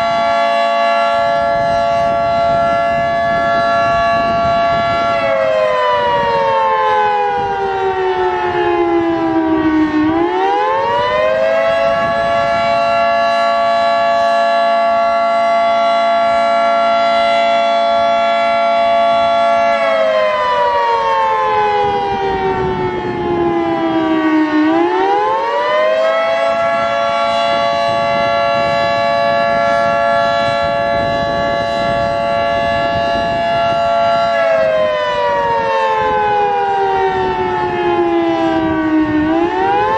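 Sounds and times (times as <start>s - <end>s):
three-tone warning siren: 0.0s - 39.9s.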